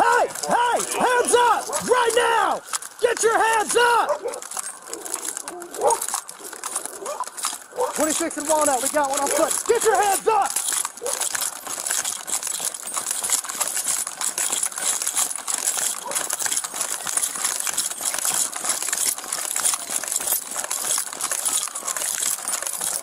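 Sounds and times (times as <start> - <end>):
keys and gear jingling: 0.0 - 23.0.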